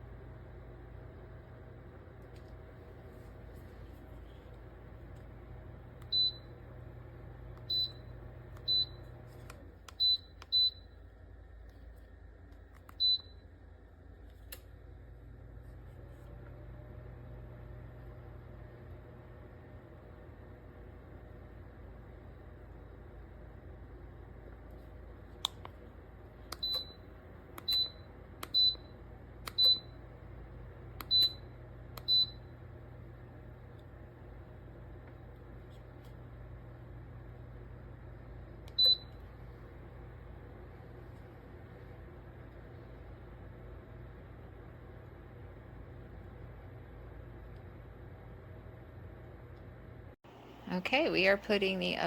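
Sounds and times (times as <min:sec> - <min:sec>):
heater low hum: 0:00.0 - 0:52.0.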